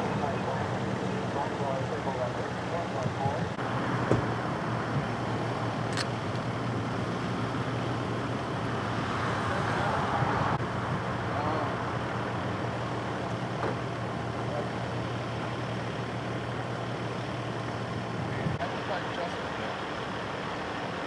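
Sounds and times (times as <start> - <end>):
road and traffic noise: 0.0 - 21.0
vehicle engine idling: 0.0 - 21.0.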